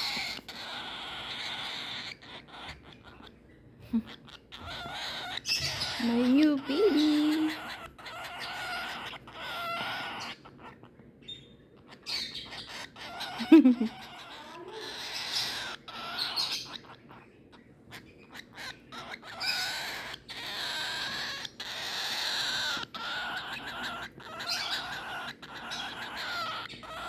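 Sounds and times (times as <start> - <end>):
cockatiel raspy hissing calls: 0.0 - 3.2, 4.1 - 10.8, 11.9 - 17.2, 17.9 - 27.0.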